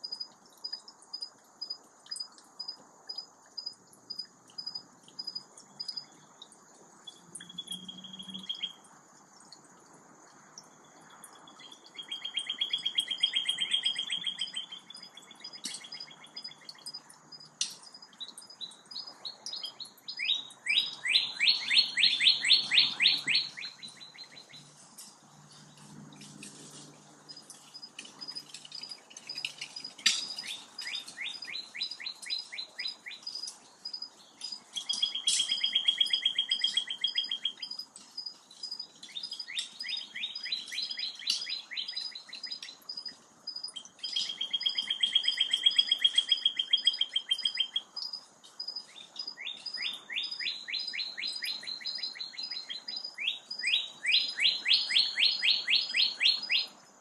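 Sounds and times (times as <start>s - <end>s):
songbirds trilling: 0.0s - 9.6s, 10.6s - 56.8s.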